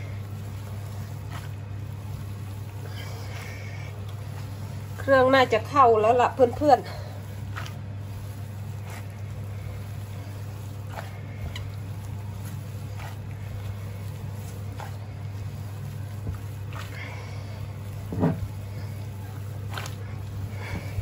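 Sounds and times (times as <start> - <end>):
steady low hum: 0.0 - 21.0
wet squelches of kneaded meat: 0.0 - 21.0.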